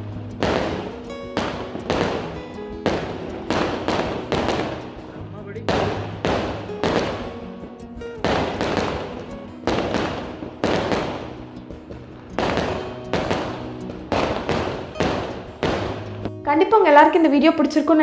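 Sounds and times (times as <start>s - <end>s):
background music: 0.0s - 18.0s
fireworks bangs with hiss: 0.3s - 7.5s, 8.2s - 16.3s.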